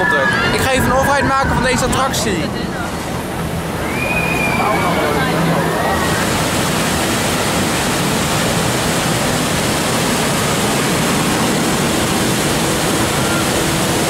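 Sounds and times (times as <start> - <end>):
falling water rushing: 0.0 - 14.0.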